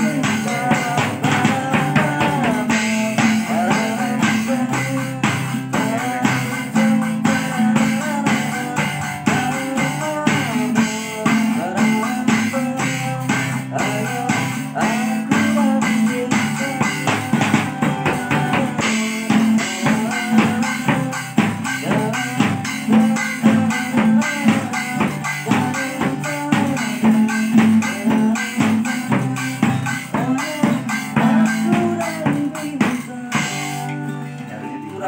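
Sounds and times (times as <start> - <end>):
band music: 0.0 - 35.0
drum kit beat: 0.0 - 35.0
guitar: 0.0 - 35.0.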